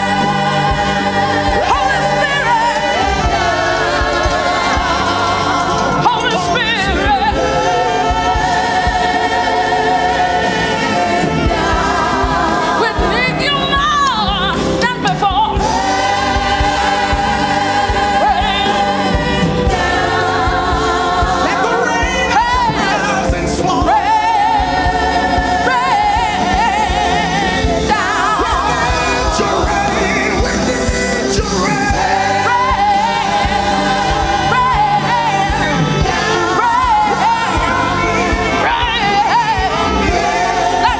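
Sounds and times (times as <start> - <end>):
gospel choir singing: 0.0 - 40.9
lead vocal singing: 0.0 - 40.9
live band accompaniment: 0.0 - 40.9.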